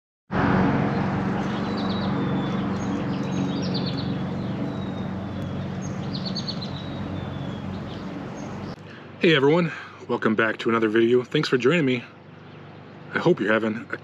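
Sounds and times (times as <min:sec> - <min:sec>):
steady low hum: 0:00.3 - 0:14.0
small birds chirping: 0:00.9 - 0:14.0.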